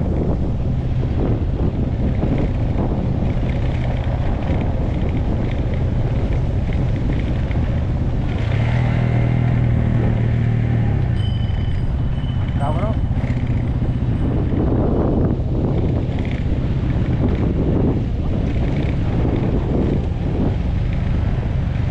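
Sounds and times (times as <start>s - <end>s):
motorcycle engine running: 0.0s - 21.9s
wind buffeting microphone: 0.0s - 21.9s.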